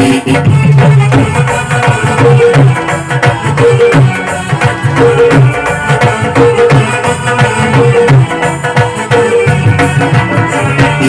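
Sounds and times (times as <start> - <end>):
devotional folk music: 0.0 - 11.0
hand drum beat: 0.0 - 11.0.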